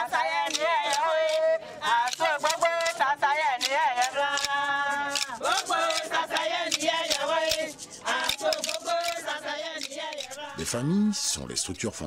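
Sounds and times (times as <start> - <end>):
women singing together: 0.0 - 10.6.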